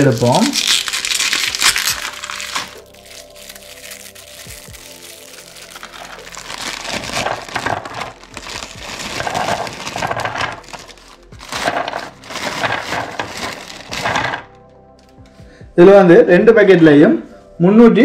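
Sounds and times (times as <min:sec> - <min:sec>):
plastic wrapper crinkling: 0:00.0 - 0:14.6.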